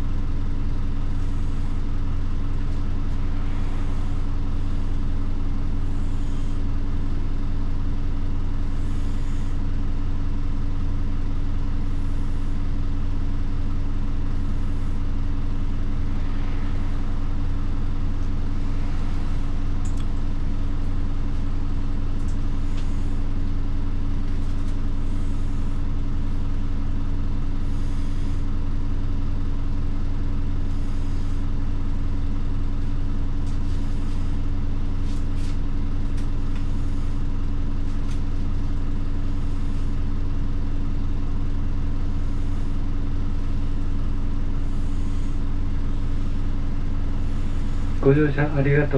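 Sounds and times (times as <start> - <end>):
bus diesel engine drone: 0.0 - 48.9.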